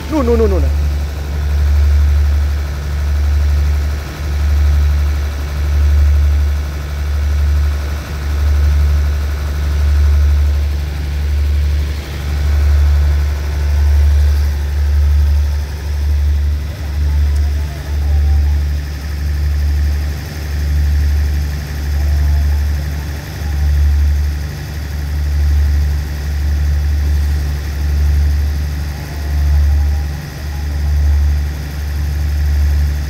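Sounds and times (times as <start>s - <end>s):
diesel train idling hum: 0.0s - 33.0s.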